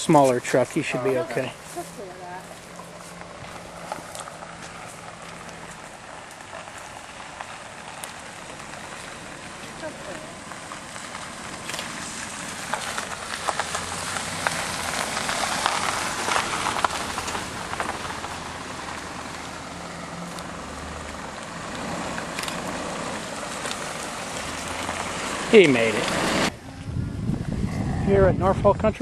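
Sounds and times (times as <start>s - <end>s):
truck engine running low: 0.0s - 28.9s
crackling and crunching with clicks: 2.6s - 26.0s.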